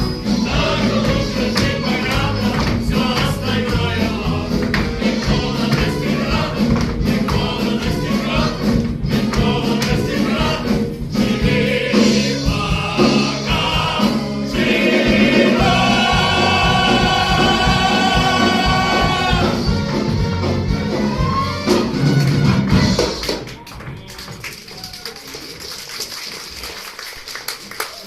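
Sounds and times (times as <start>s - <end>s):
choir singing with music: 0.0s - 23.0s.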